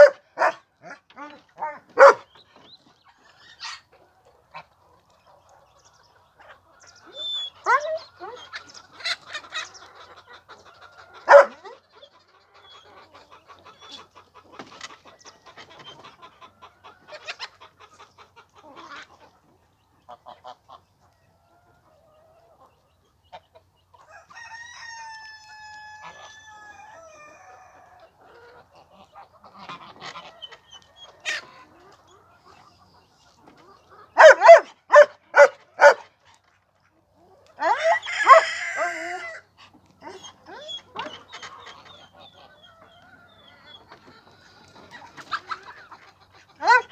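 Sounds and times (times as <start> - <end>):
chickens clucking and calling: 0.0 - 46.9.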